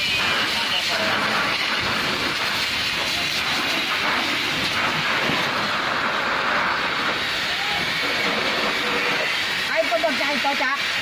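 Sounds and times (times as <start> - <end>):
fire hose jet hissing: 0.0 - 11.0.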